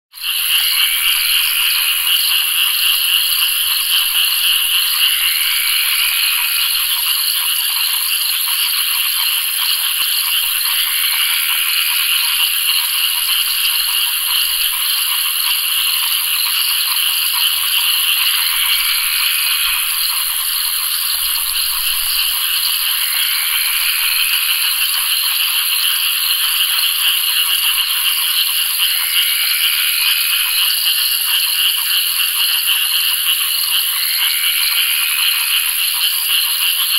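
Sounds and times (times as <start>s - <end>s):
frogs calling in rattling trill: 0.2s - 36.9s.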